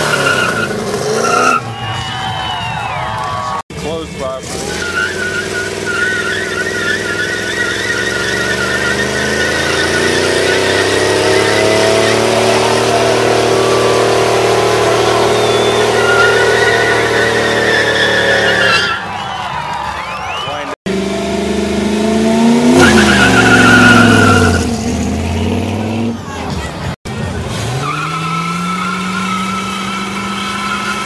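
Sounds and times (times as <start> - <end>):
truck engine at high revs: 0.0 - 1.8, 3.7 - 19.3, 20.2 - 31.0
tire squealing: 0.0 - 31.0.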